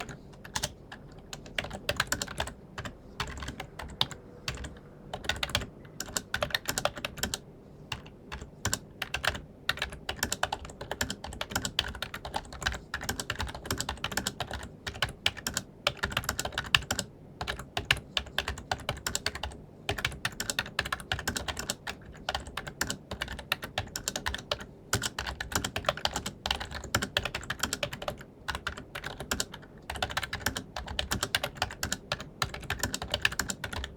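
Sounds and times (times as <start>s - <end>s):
fast typing on keyboard: 0.0s - 33.9s.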